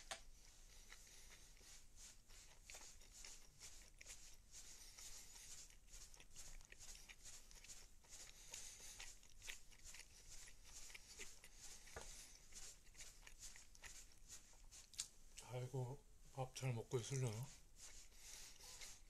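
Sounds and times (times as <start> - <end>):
soft chewing mouth clicks: 0.0 - 15.5.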